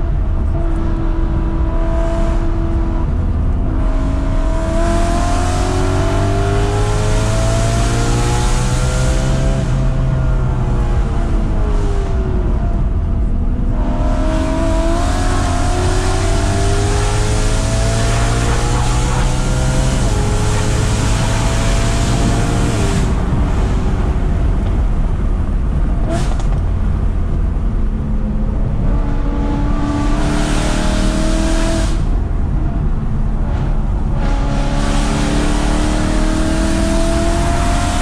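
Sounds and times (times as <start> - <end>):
car engine revving under acceleration: 0.0 - 38.0.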